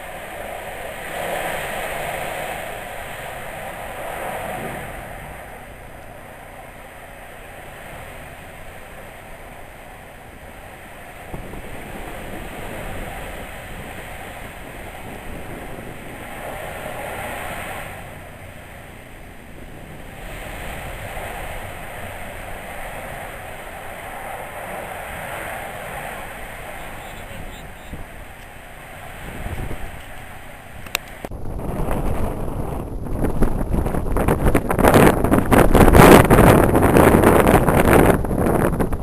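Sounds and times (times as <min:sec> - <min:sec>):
wind on microphone: 0:00.0 - 0:39.0.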